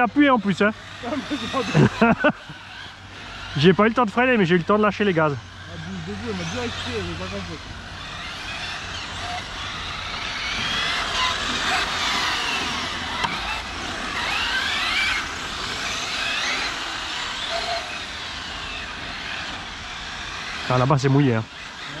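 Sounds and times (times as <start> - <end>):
electric motor whine: 0.0 - 22.0.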